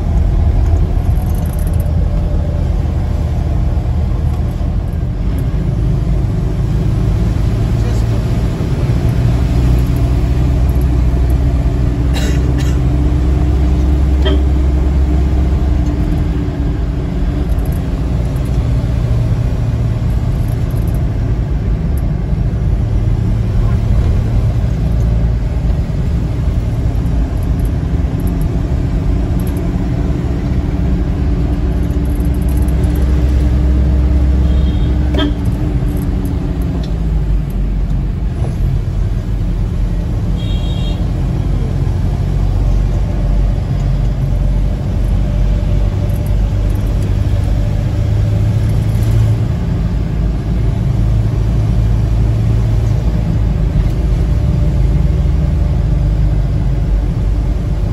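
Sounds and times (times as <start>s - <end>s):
vehicle engine and road noise: 0.0s - 57.9s.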